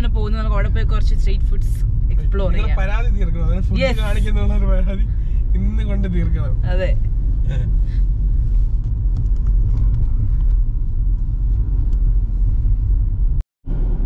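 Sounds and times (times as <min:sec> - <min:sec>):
car interior road rumble: 0:00.0 - 0:14.0.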